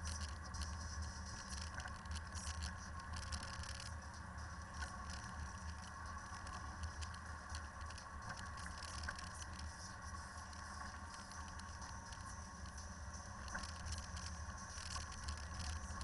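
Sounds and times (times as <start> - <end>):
vibration crackling and rattling: 0.0 - 16.0.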